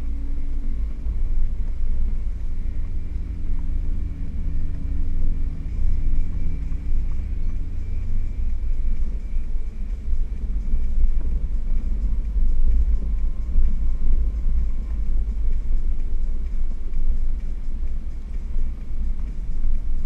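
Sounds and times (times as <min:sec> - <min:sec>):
engine and tyres rumbling: 0:00.0 - 0:20.0.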